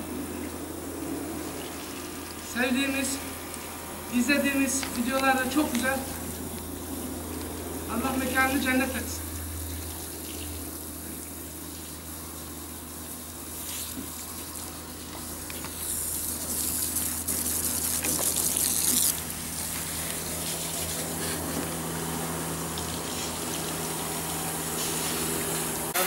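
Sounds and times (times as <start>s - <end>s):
hose water spraying on car: 0.0s - 26.0s
steady low hum: 0.0s - 26.0s.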